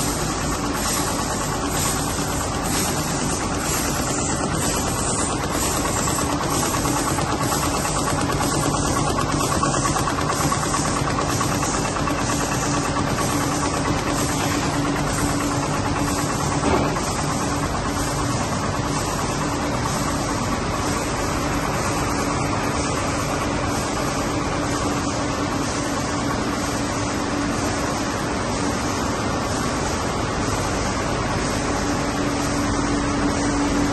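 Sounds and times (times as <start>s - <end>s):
high steady whine: 0.0s - 33.9s
label press mechanical hum: 0.0s - 33.9s.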